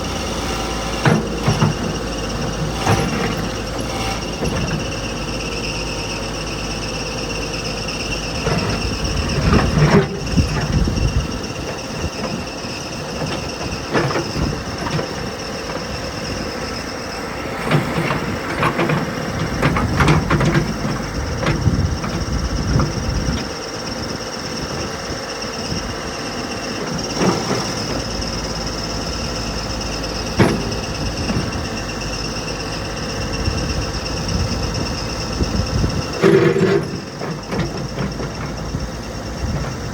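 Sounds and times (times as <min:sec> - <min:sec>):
diesel engine under load: 0:00.0 - 0:39.9
hydraulics hissing and whining: 0:00.0 - 0:39.9.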